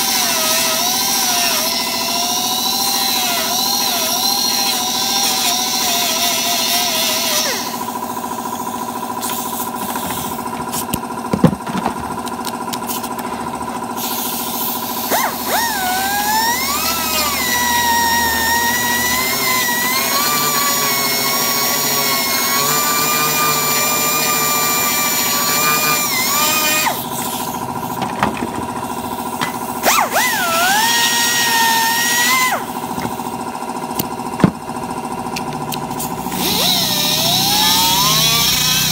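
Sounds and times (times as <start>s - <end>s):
electric grinder whining: 0.0s - 10.6s, 13.3s - 34.3s, 35.1s - 38.9s.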